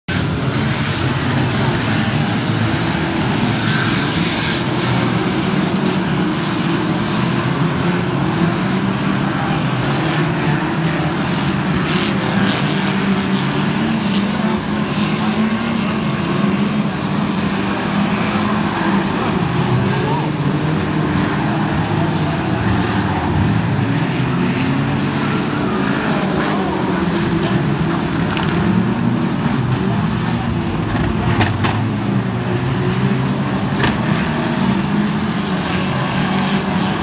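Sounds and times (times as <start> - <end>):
racing car engines droning: 0.1 - 37.0.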